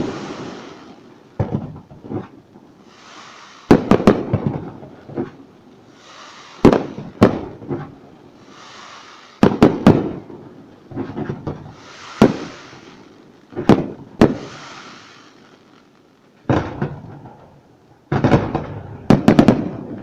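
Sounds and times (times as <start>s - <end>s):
fireworks bursting with bangs: 0.0s - 20.0s
fireworks crackling hiss: 0.0s - 20.0s.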